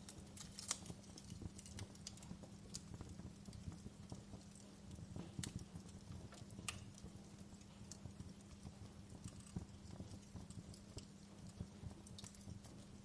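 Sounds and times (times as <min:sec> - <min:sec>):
low steady rumble: 0:00.0 - 0:13.0
wood fire crackling and popping: 0:00.0 - 0:13.0.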